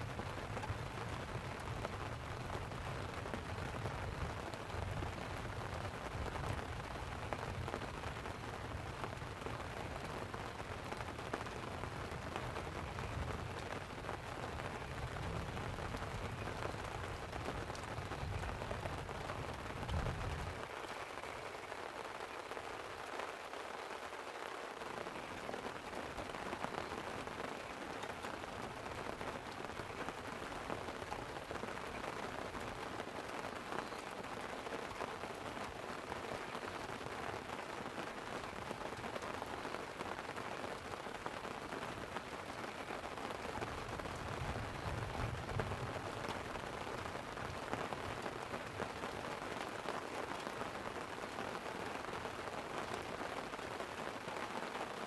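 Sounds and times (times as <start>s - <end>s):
light rain pattering on tent: 0.0s - 55.0s.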